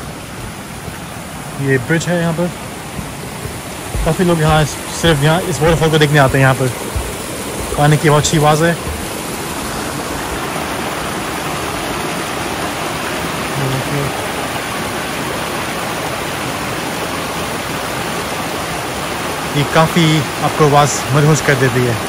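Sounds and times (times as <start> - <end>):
small waterfall flowing: 0.0 - 22.0.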